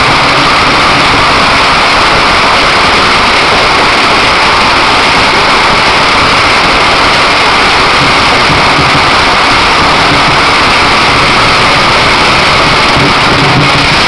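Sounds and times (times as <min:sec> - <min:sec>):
firecrackers crackling: 0:00.0 - 0:14.0.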